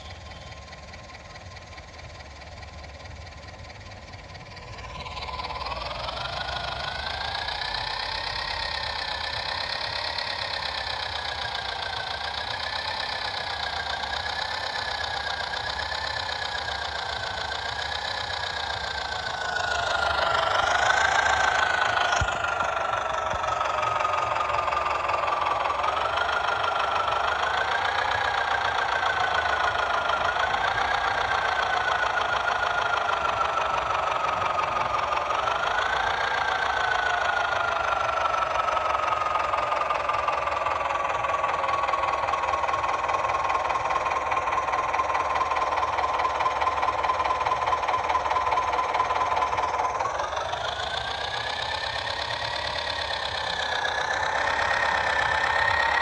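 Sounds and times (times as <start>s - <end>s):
toy motor and gears whining: 4.4s - 56.0s.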